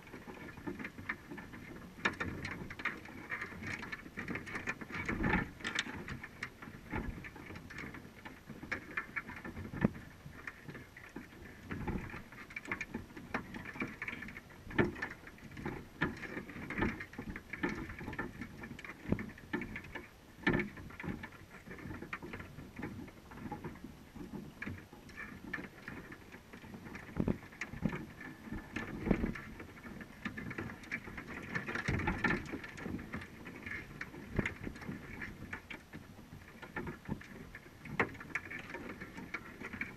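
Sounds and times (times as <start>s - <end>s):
muffled underwater clicking and tapping: 0.0s - 39.9s.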